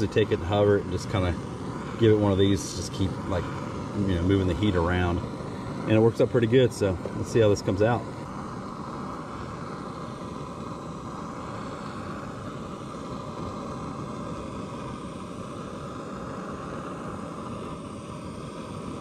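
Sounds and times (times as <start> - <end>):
gas stove burner hissing: 0.0 - 19.0.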